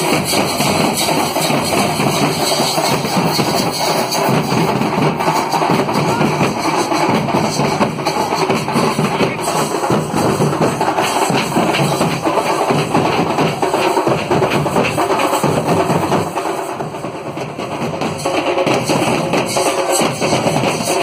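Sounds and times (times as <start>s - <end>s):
crowd voices: 0.0s - 17.4s
drums beaten densely: 0.0s - 21.0s.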